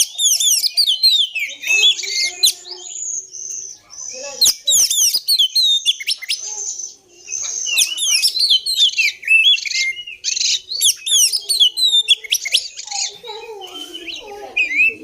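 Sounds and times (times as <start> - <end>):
magpie-robin singing: 0.0 - 15.0.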